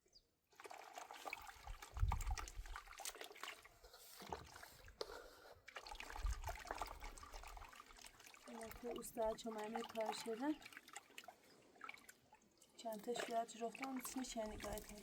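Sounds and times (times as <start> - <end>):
water pouring into plaster mix: 0.5 - 12.2, 12.8 - 15.0.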